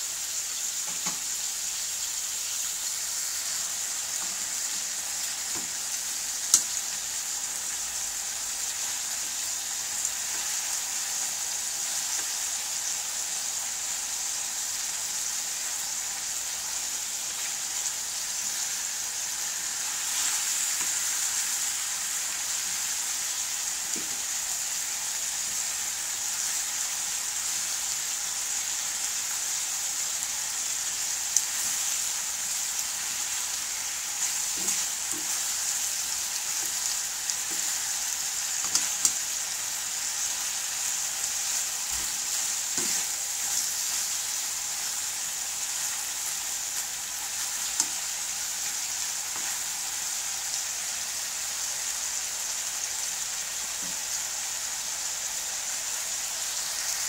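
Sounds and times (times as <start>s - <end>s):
meat sizzling in a wok: 0.0s - 57.0s.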